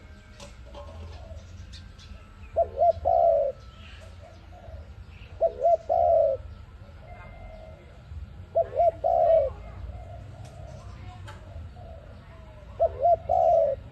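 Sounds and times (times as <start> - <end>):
dove cooing: 0.0 - 13.9
small birds chirping: 0.0 - 13.9.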